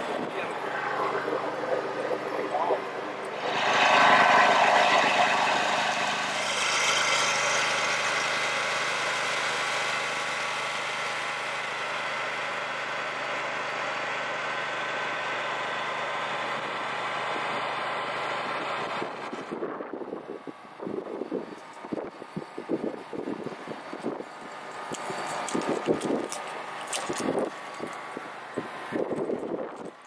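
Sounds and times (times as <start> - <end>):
insulation blowing machine humming: 0.0 - 30.0.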